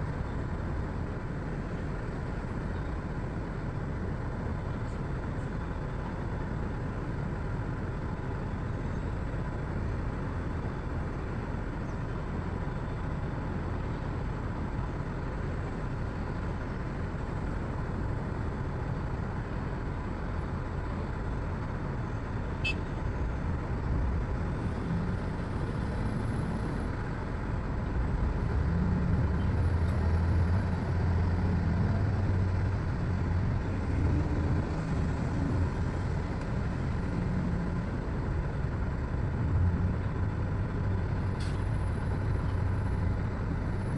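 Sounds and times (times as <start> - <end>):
diesel engine rumbling: 0.0 - 43.9.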